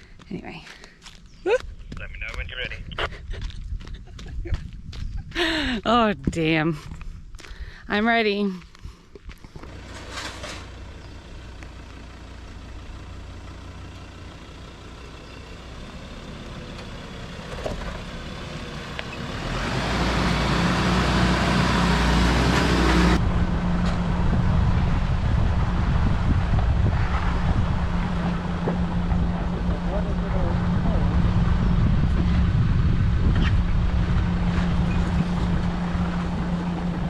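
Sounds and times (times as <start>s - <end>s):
truck engine driving: 0.0s - 8.5s, 9.2s - 37.0s.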